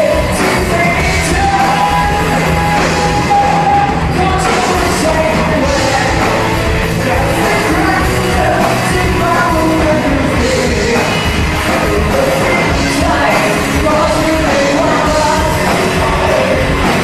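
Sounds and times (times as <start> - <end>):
live band playing: 0.0 - 17.0
singer singing into microphone: 0.0 - 17.0.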